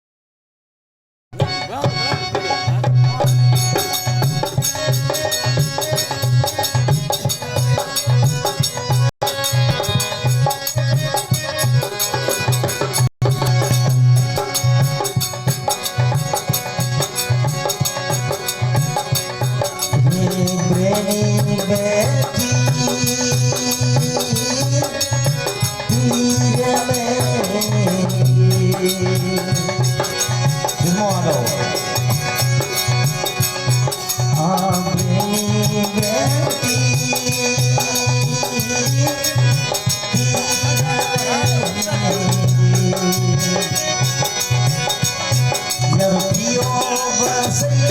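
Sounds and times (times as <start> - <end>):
drum rhythm: 1.3 - 47.9.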